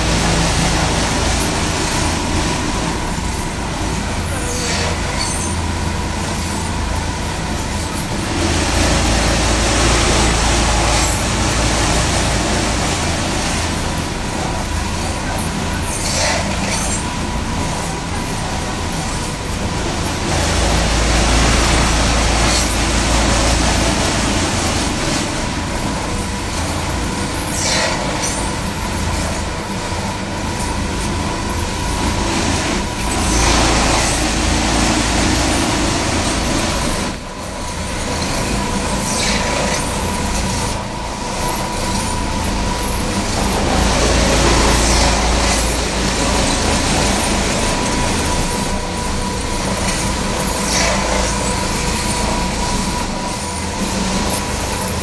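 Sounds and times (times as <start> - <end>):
carpet washer motor hum: 0.0 - 15.8, 16.5 - 55.0.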